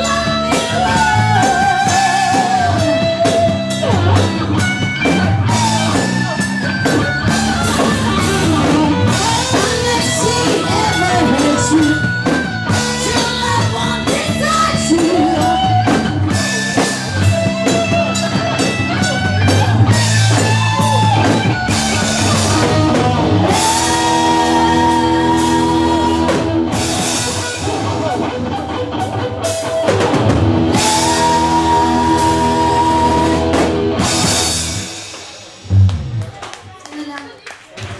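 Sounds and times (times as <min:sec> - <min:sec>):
person singing: 0:00.0 - 0:28.2, 0:30.6 - 0:34.4
live rock band: 0:00.0 - 0:37.9.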